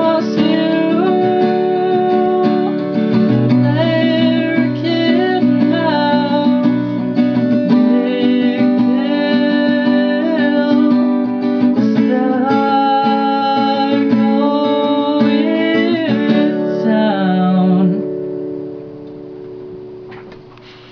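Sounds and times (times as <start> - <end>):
person singing wordless notes: 0.0 - 2.9, 3.5 - 6.7, 7.5 - 18.2
acoustic guitar strummed: 0.0 - 20.9.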